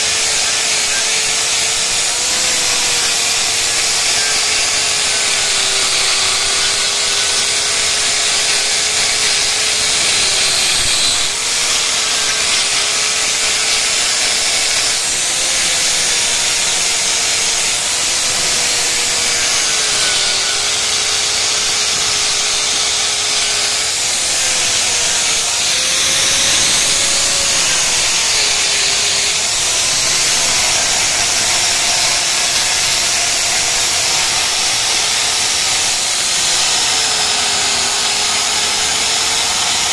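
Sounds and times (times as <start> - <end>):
angle grinder sanding metal: 0.0 - 39.9.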